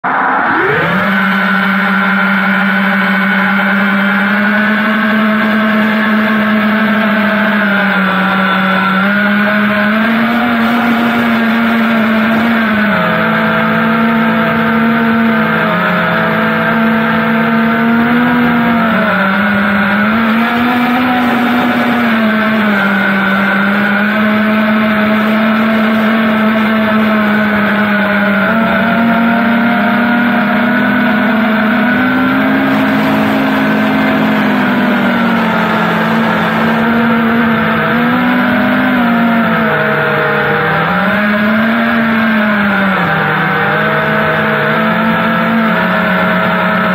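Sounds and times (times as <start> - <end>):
drone motors whining: 0.0 - 46.9.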